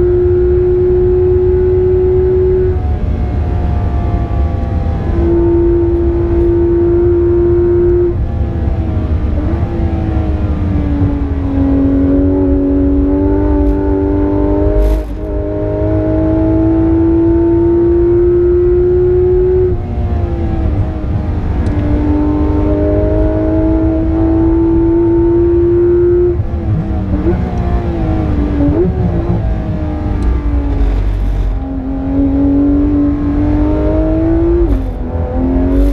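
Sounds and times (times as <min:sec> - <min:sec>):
car engine accelerating: 0:00.0 - 0:35.9
engine throttle blips: 0:00.0 - 0:35.9
road noise rumble: 0:00.0 - 0:35.9.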